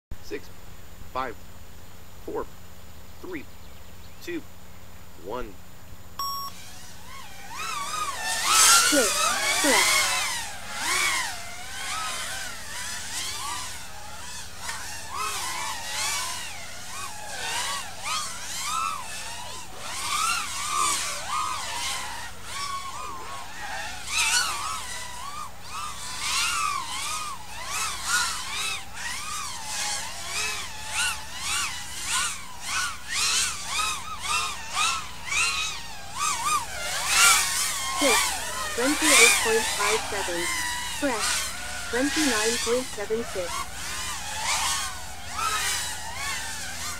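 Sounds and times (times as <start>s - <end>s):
drone motors whining: 6.2s - 46.9s.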